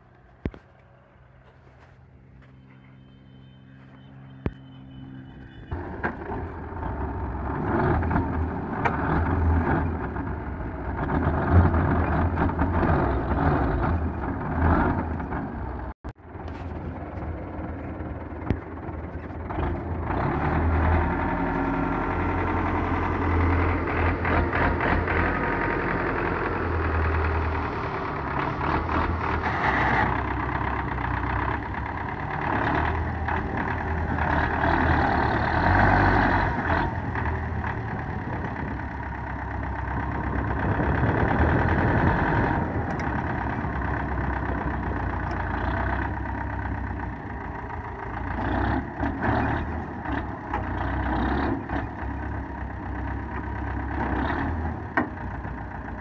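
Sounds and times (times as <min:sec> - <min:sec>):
tractor diesel engine straining: 0:00.0 - 0:56.0.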